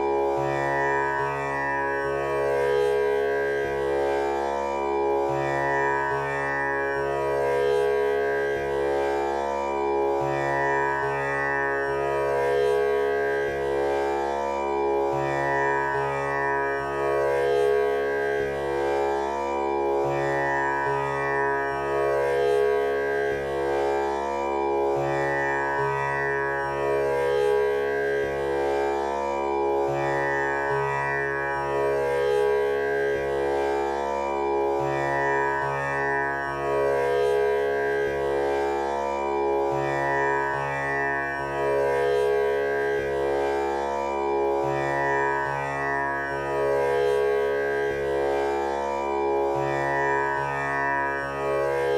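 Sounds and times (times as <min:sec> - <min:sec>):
tanpura drone: 0:00.0 - 0:51.9.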